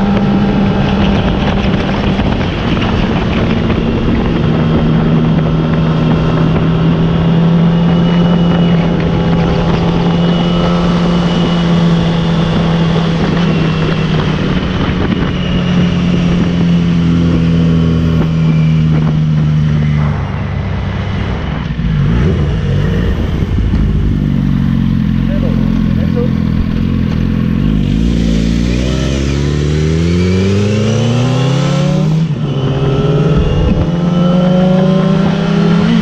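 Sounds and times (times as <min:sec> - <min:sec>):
wind noise over microphone: 0:00.0 - 0:25.7, 0:26.3 - 0:36.0
motorcycle engine running: 0:00.0 - 0:36.0.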